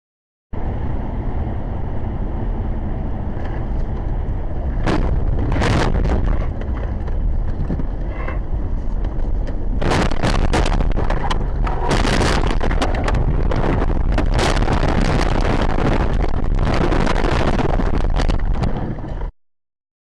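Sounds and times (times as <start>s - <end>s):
car engine and road rumble: 0.5s - 19.3s.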